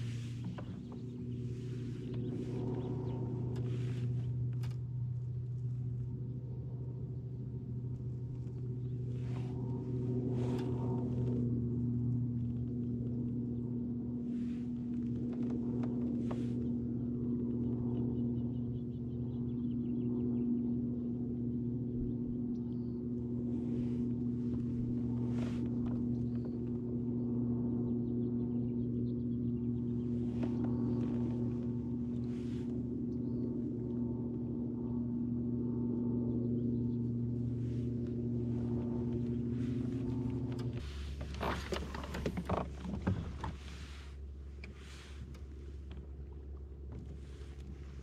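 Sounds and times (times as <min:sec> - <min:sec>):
low motor hum: 0:00.0 - 0:48.0.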